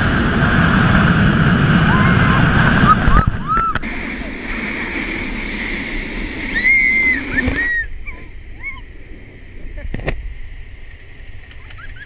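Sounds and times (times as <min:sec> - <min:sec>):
air rushing past glider: 0:00.0 - 0:12.0.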